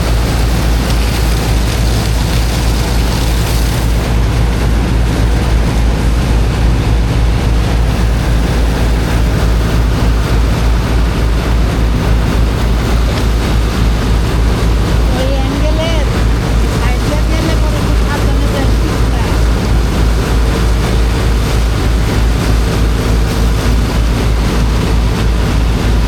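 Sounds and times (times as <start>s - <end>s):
water pump engine throbbing: 0.0s - 26.0s.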